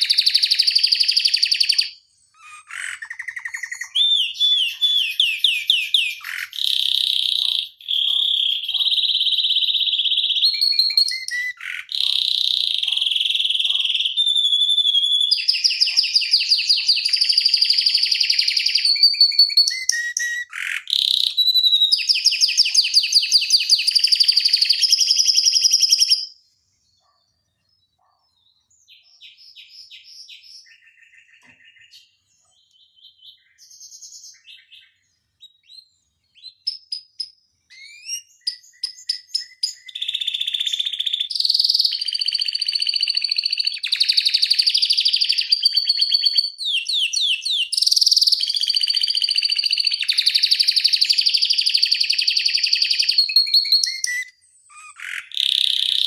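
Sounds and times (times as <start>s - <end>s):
canary singing rolling trills: 0.0s - 56.0s.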